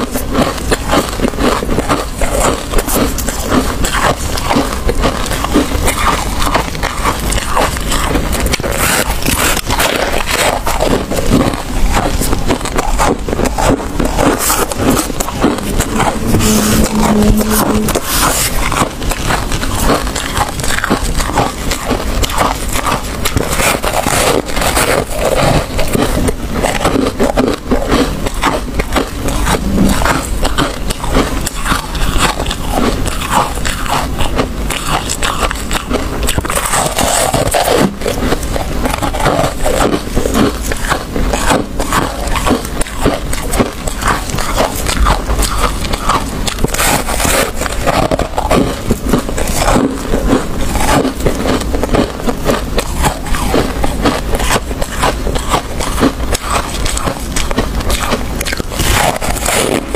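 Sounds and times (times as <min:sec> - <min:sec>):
frost being scraped and crunched: 0:00.0 - 0:59.9.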